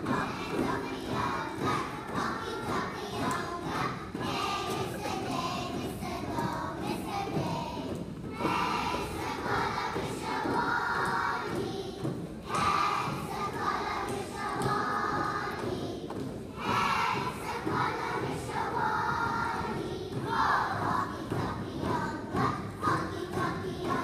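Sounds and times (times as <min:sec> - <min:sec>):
children's choir singing: 0:00.0 - 0:24.0.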